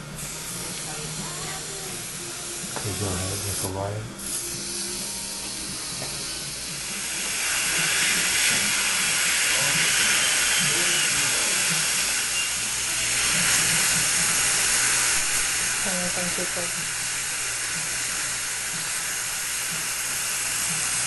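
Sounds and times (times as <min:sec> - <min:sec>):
dental scaler water spray hiss: 0:00.0 - 0:21.0.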